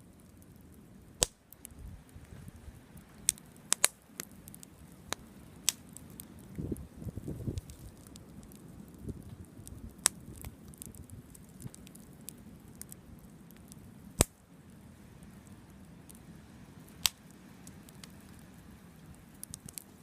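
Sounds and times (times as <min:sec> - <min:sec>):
campfire wood crackling: 0:00.0 - 0:20.0
low steady rumble: 0:00.0 - 0:20.0.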